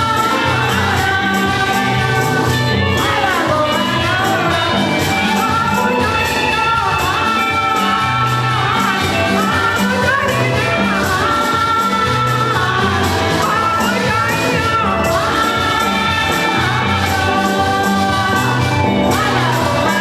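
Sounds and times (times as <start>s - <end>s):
church music with singing: 0.0s - 20.0s.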